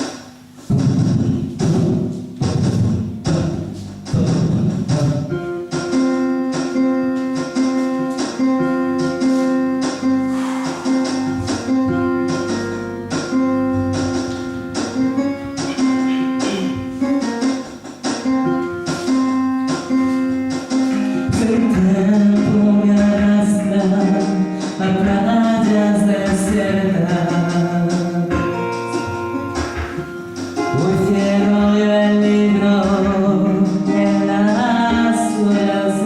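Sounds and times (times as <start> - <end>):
plucked guitar music: 0.7 - 36.0.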